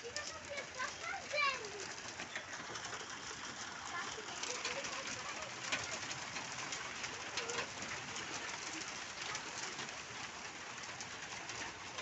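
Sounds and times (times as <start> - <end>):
steady hiss with small ticks: 0.0 - 12.0.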